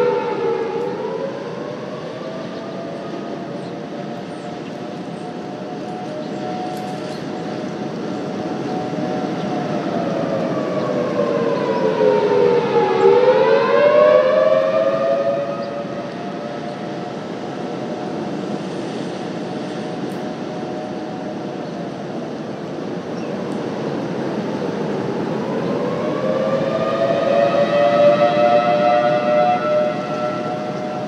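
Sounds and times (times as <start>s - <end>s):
rotating warning siren: 0.0s - 31.0s.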